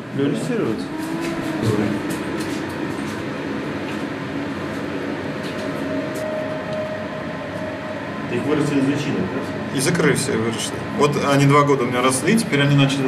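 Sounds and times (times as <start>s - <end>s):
equipment hum and hiss: 0.0s - 13.0s.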